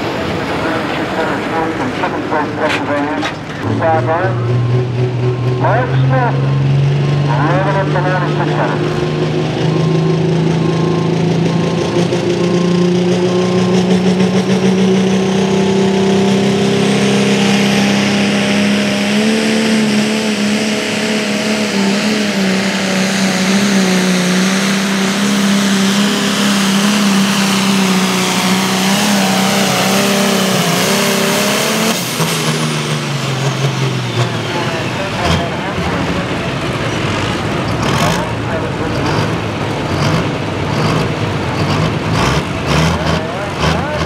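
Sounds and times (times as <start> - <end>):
diesel tractor engine roaring: 0.0 - 44.0.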